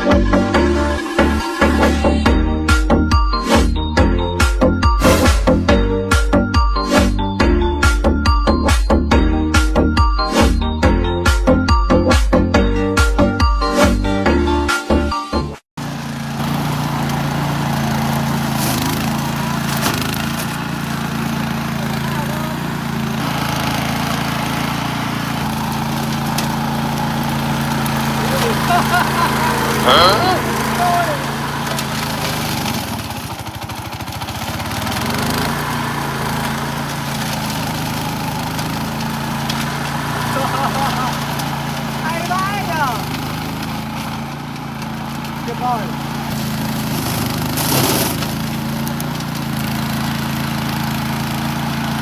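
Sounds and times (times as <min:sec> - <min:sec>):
lawn mower engine running: 0:00.0 - 0:07.3, 0:15.8 - 0:52.0.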